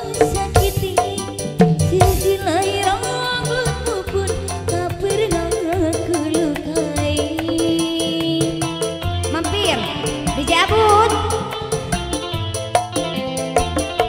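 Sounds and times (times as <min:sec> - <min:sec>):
keyboard: 0:00.0 - 0:14.0
ornamented melody line: 0:00.0 - 0:14.0
steady drum beat: 0:00.0 - 0:14.0.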